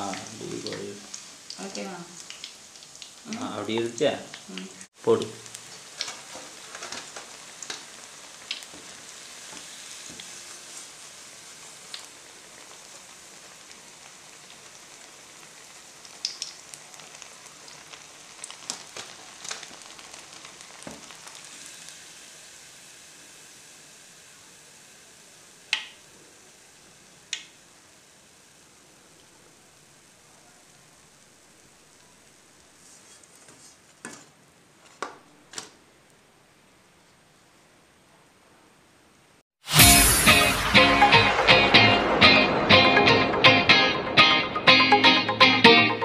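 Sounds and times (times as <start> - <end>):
hot oil sizzling: 0.0 - 37.2, 39.6 - 46.0.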